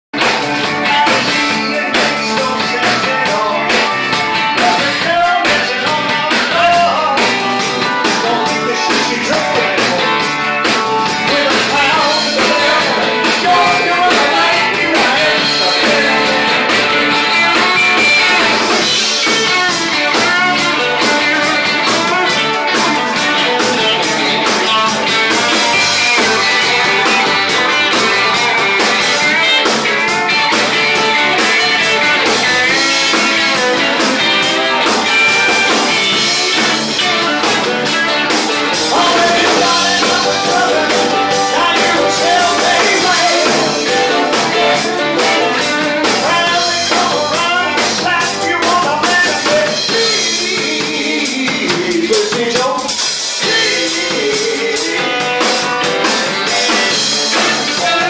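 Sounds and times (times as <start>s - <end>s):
drum kit steady beat: 0.1s - 58.0s
electric guitars: 0.2s - 58.0s
keyboard: 0.2s - 58.0s
man singing: 0.2s - 58.0s.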